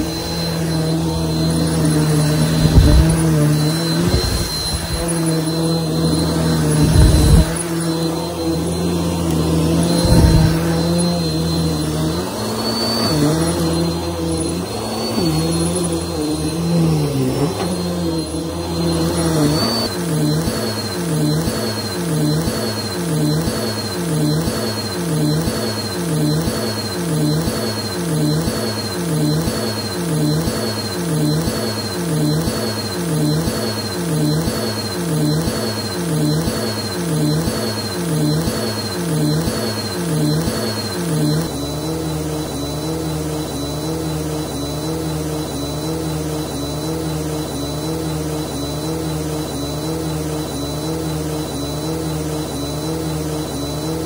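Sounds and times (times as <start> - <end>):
vacuum cleaner running on rug: 0.0 - 49.9.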